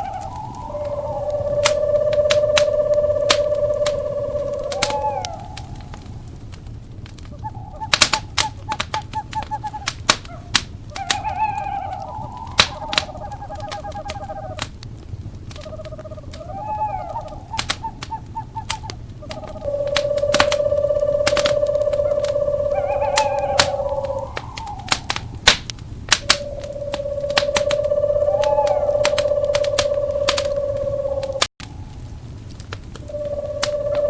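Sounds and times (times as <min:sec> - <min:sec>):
owl trilling: 0:00.0 - 0:06.3, 0:07.3 - 0:14.7, 0:15.6 - 0:25.5, 0:26.1 - 0:31.5, 0:33.0 - 0:34.0
owl call rising and falling: 0:00.0 - 0:06.4, 0:07.2 - 0:14.7, 0:15.5 - 0:31.5, 0:33.0 - 0:34.0
wood fire crackling and popping: 0:00.0 - 0:34.0.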